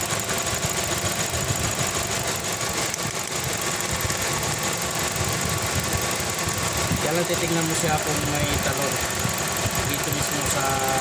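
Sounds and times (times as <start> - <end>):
car engine idling: 0.0 - 11.0
rapid clicking: 0.0 - 11.0.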